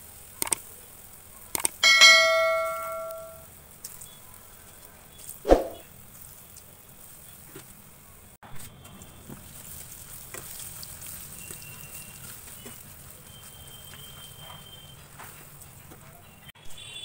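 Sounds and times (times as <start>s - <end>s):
food sizzling in hot oil: 0.0s - 16.5s.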